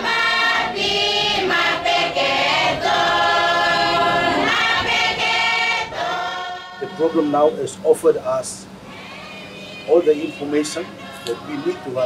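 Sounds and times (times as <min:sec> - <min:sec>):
women's choir singing: 0:00.0 - 0:07.6, 0:08.8 - 0:12.0.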